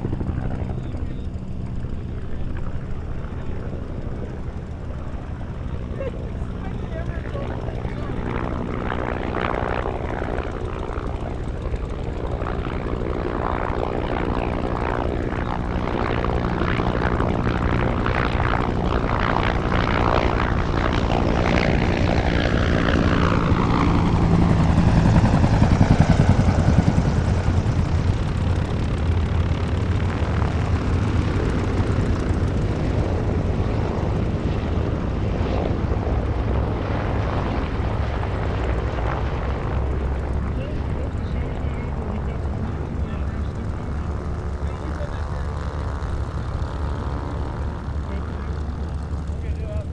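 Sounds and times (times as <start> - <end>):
helicopter flying past: 0.0 - 49.9.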